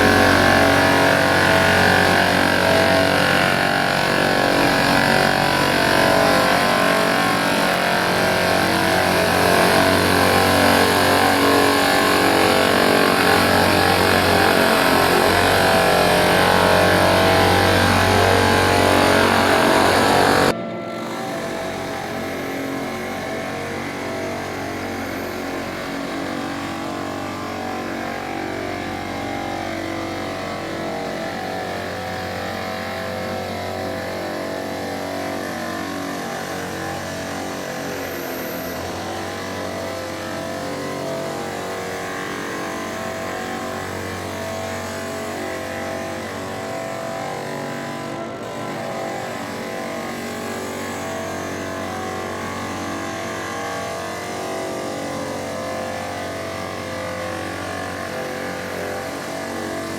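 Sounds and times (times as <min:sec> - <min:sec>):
floor sander droning: 0:00.0 - 0:59.9.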